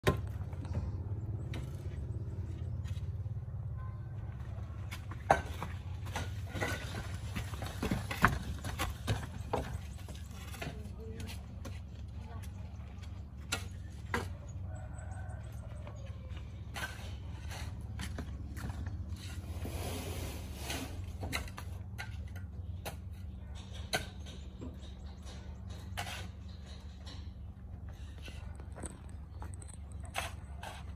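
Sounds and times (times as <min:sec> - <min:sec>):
engine droning: 0:00.0 - 0:30.9.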